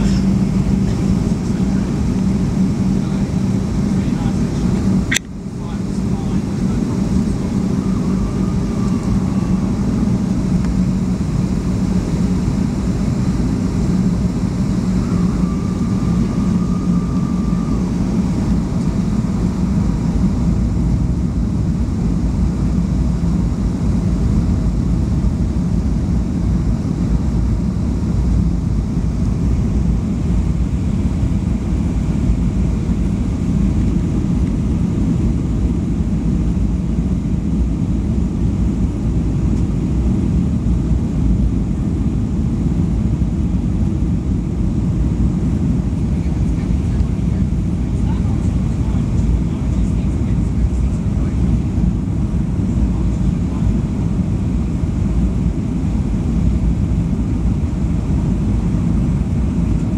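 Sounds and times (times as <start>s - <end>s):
airflow over fuselage: 0.0s - 59.9s
jet engine roar in cabin: 0.0s - 59.9s
low hum: 0.0s - 59.9s.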